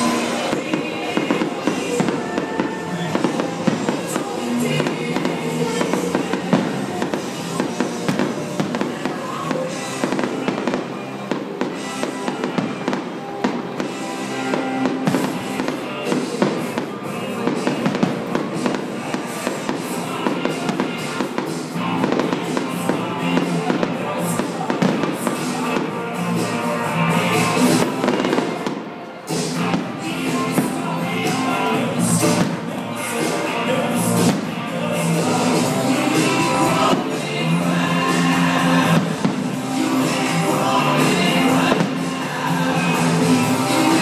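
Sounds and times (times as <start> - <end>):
fireworks bursting and crackling: 0.0 - 44.0
music playing: 0.0 - 44.0.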